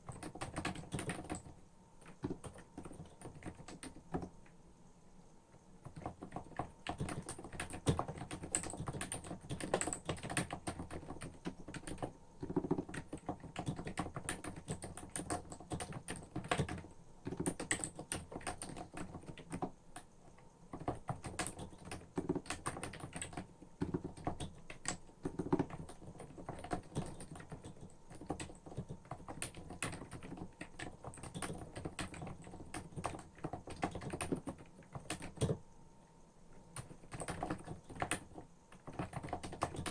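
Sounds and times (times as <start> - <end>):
keyboard typing: 0.0 - 4.6, 5.5 - 35.6, 36.5 - 39.9.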